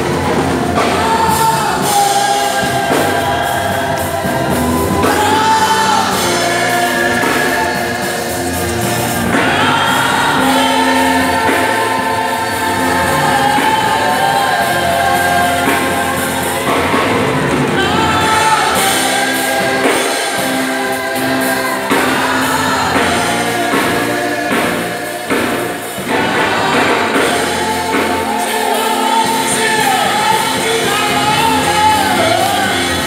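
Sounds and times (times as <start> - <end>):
group singing gospel music: 0.0 - 33.0
instrumental accompaniment: 0.0 - 33.0.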